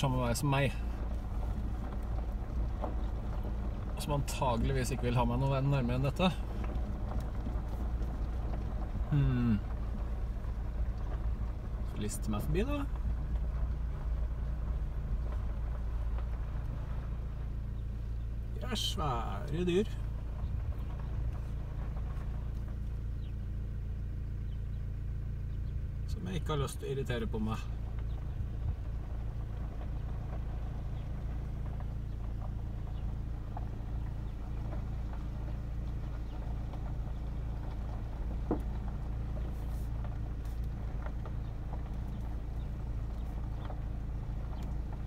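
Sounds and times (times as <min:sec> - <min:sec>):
car engine humming at low revs: 0:00.0 - 0:45.0.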